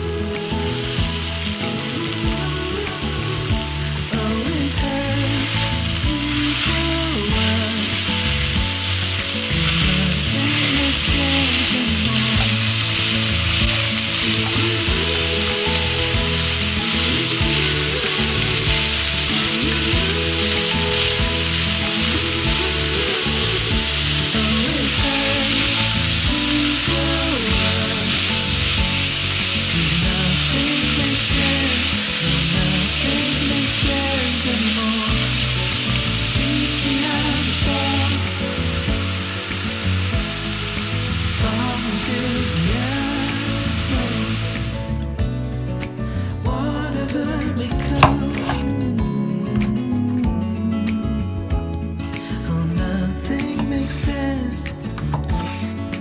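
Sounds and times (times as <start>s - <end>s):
food sizzling in a pan: 0.0s - 46.2s, 46.8s - 48.8s
background music: 0.0s - 56.0s.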